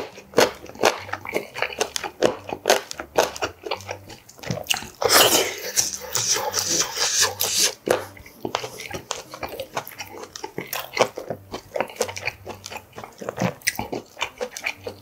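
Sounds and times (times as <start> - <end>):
man chewing with wet mouth sounds: 0.0 - 15.0.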